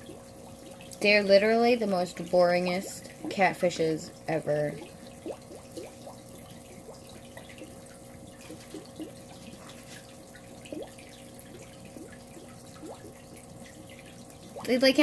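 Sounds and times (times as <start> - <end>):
faint steady hum: 0.0 - 15.0
small water plops: 0.0 - 15.0
water trickling and dripping: 0.0 - 15.0.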